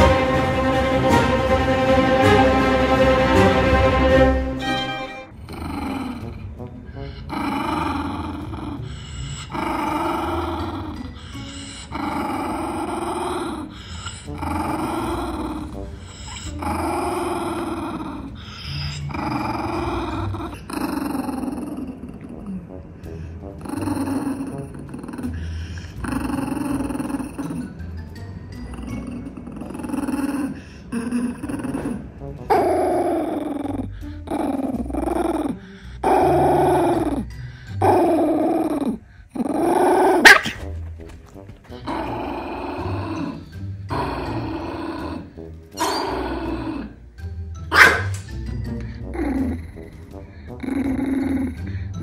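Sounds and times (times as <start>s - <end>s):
small dog growling: 5.3s - 22.8s, 23.6s - 27.8s, 28.6s - 47.1s, 47.7s - 52.0s.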